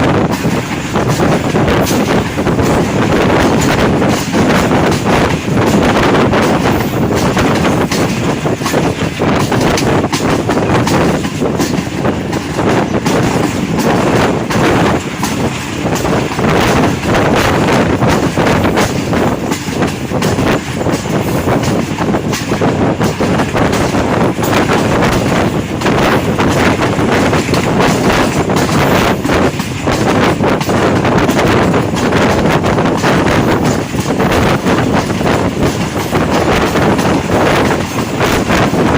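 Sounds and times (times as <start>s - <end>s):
train rumble: 0.0s - 38.9s
wheels clattering over rail joints: 0.0s - 38.9s
wind buffeting microphone: 0.0s - 38.9s.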